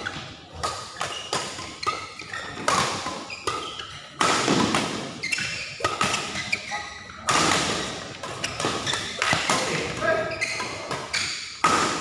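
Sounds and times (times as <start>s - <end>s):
shoes squeaking on court: 0.0s - 11.6s
rackets striking shuttlecock: 0.2s - 10.0s, 10.6s - 12.0s.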